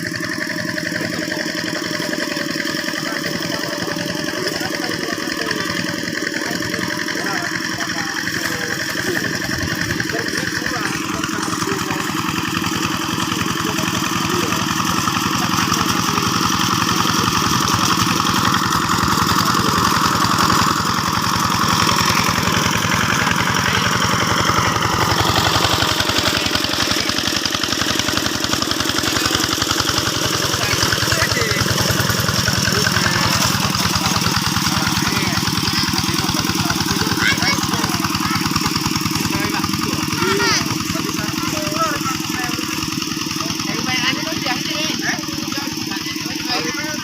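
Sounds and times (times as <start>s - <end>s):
diesel engine chugging: 0.0s - 47.0s.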